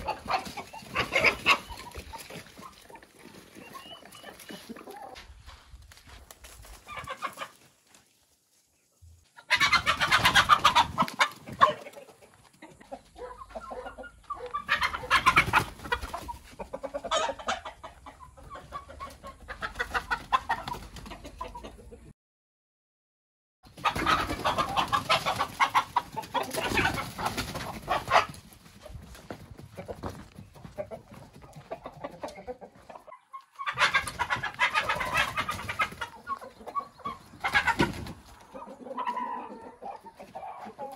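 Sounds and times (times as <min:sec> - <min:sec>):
chickens clucking and squawking: 0:00.0 - 0:22.1, 0:23.7 - 0:40.9.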